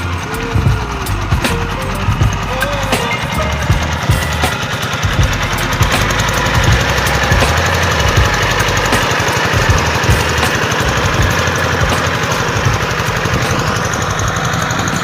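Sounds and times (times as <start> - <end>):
diesel engine knocking steadily: 0.0 - 15.0.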